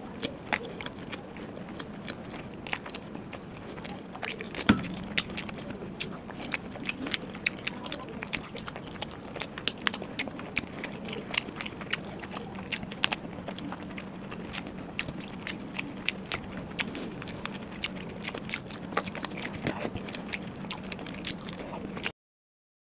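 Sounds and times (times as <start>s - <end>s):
close chewing with wet mouth smacks: 0.1s - 22.1s.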